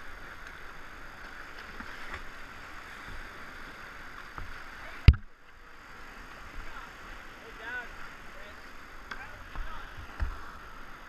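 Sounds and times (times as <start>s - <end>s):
whitewater rushing through rapid: 0.0s - 11.0s.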